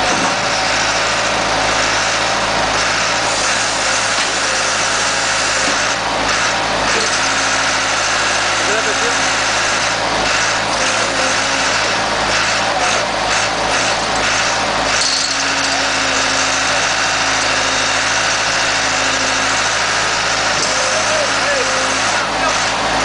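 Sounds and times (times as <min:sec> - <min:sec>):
baler engine running steadily: 0:00.0 - 0:23.0.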